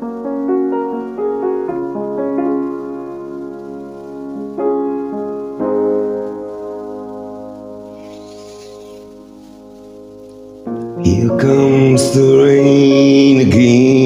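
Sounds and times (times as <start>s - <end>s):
piano-like keyboard chords: 0.0s - 14.0s.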